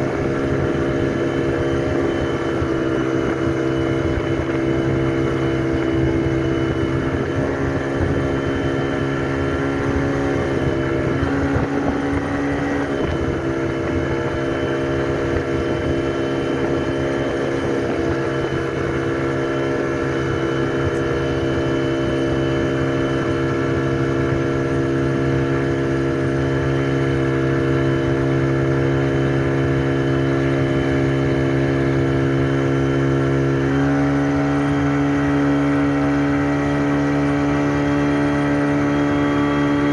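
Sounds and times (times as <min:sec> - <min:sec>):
rush of wind and water: 0:00.0 - 0:39.9
speedboat engine running: 0:00.0 - 0:39.9.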